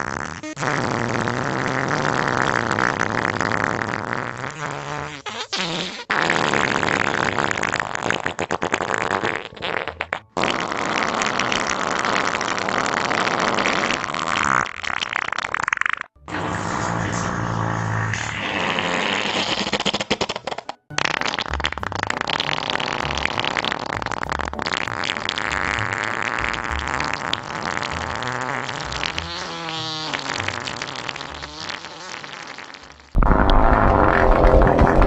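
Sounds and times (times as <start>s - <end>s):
fart noises: 0.0s - 35.0s.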